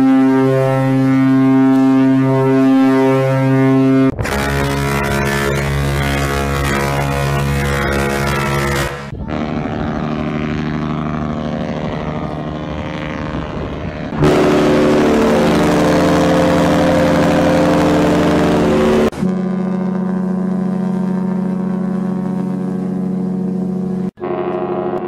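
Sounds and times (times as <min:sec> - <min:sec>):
ship horn blasts: 0:00.0 - 0:25.0.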